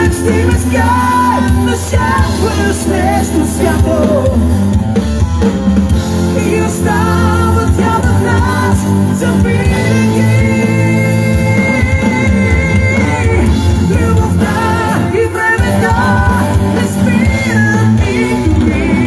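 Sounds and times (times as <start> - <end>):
person singing: 0.0 - 4.5, 6.2 - 19.0
bass guitar: 0.0 - 19.0
drum kit: 0.0 - 19.0
electric guitars: 0.0 - 19.0.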